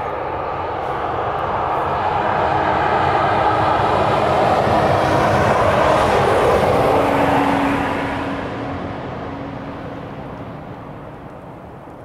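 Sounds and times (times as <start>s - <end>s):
vehicle passing with rushing noise: 0.0s - 11.7s.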